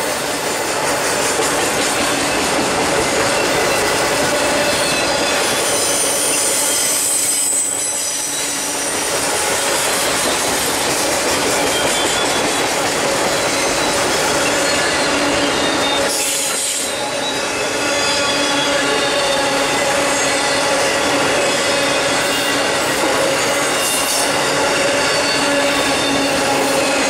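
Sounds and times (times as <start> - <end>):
freight train passing: 0.0 - 27.0
steel wheels squealing: 0.0 - 27.0.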